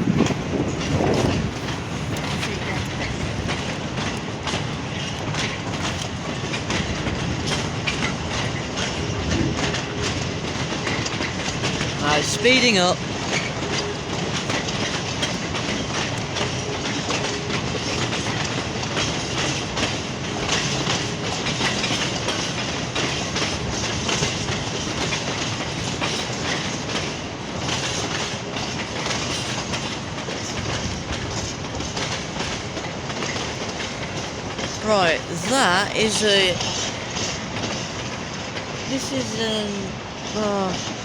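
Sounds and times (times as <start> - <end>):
wheels clattering over rail joints: 0.0 - 35.2
freight train passing: 0.0 - 41.0.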